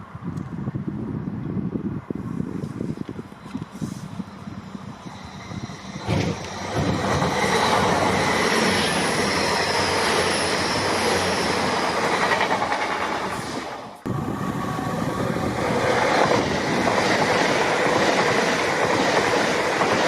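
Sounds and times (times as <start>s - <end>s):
train wheel and rail noise: 0.0s - 20.0s.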